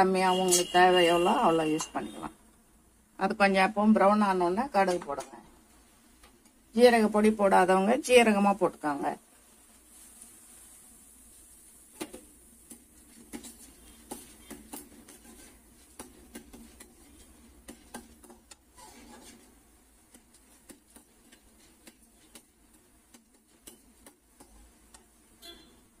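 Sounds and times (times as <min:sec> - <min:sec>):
lentils frying in oil: 0:00.0 - 0:26.0.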